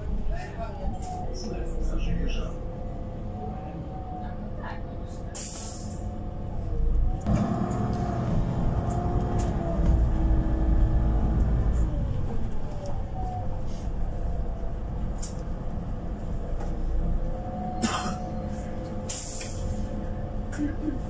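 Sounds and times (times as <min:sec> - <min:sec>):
bus engine rumble with whine: 0:00.0 - 0:21.0.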